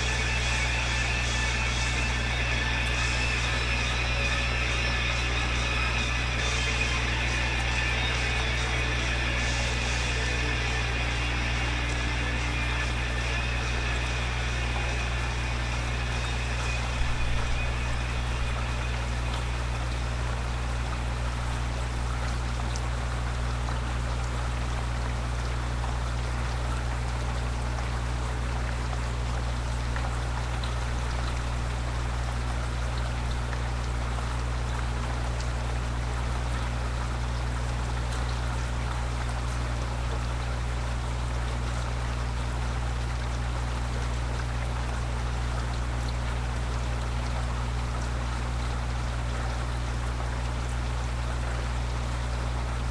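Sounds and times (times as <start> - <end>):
constant low hum: 0.0 - 52.9
faint drips: 0.0 - 52.9
steady rain falling: 0.0 - 52.9.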